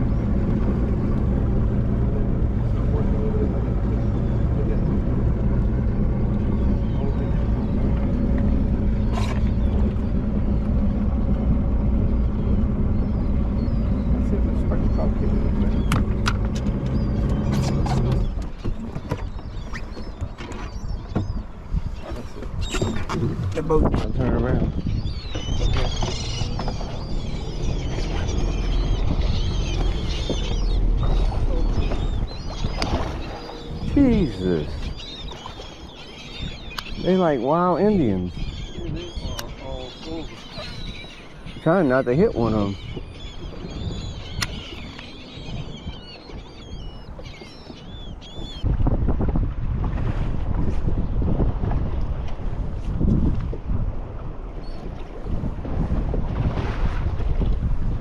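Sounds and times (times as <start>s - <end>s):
seabirds squawking: 0.0s - 48.7s
boat motor humming: 0.0s - 58.0s.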